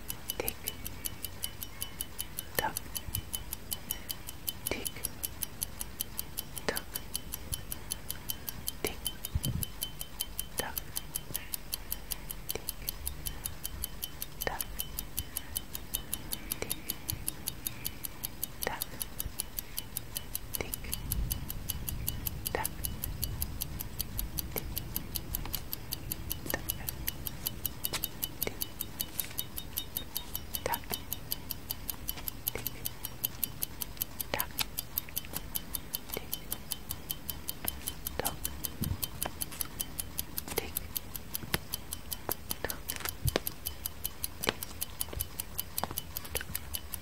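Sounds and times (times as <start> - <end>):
clock ticking: 0.0 - 47.0.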